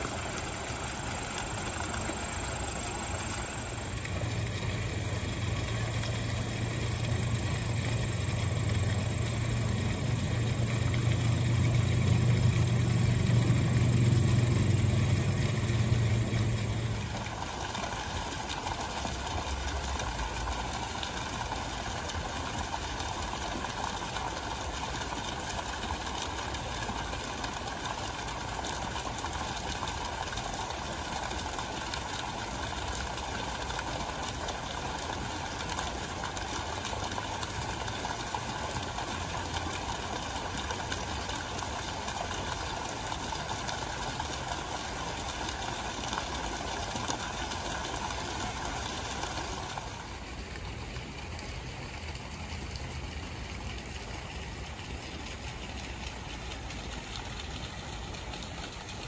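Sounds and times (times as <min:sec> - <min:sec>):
fountain jets splashing into pool: 0:00.0 - 0:59.0.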